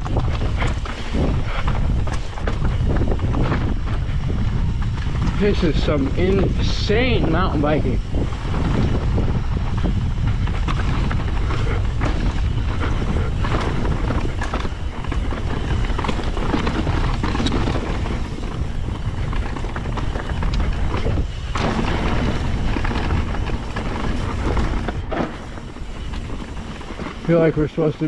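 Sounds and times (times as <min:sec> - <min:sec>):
bike clicking and rattling: 0:00.0 - 0:28.0
bike tyres rolling on rocky dirt: 0:00.0 - 0:28.0
wind buffeting microphone: 0:00.0 - 0:28.0.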